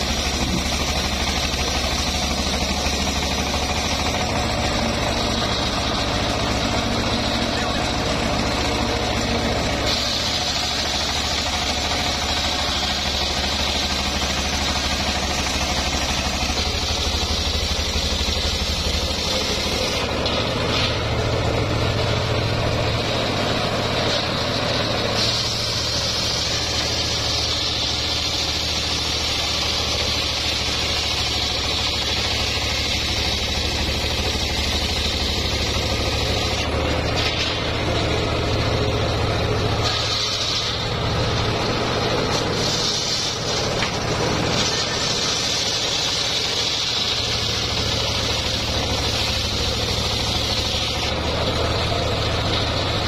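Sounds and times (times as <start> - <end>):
saw blade cutting log: 0.0 - 53.0
sawmill engine droning: 0.0 - 53.0.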